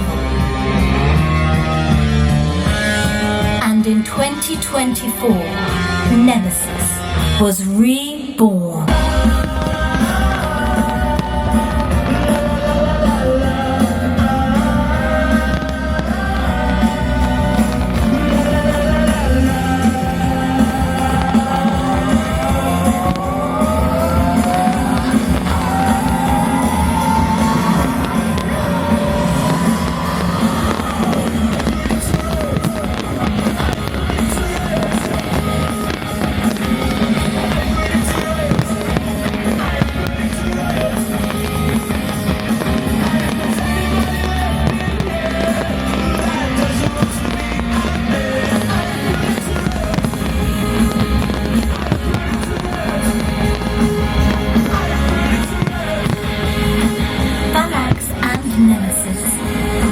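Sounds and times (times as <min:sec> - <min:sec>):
fireworks bursting and crackling: 0:00.0 - 0:07.4, 0:08.9 - 0:59.9
music over loudspeakers: 0:00.0 - 0:59.9.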